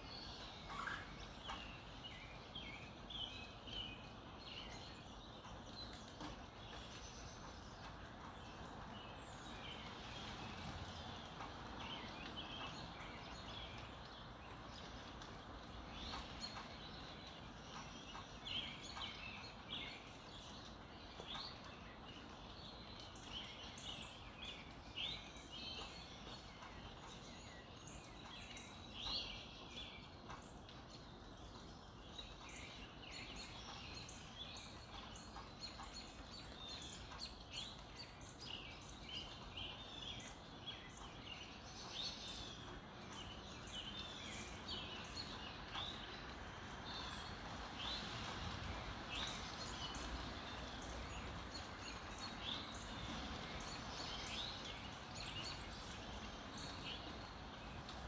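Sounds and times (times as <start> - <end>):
faint outdoor hiss: 0.0 - 58.0
songbirds chirping and singing: 0.0 - 58.0.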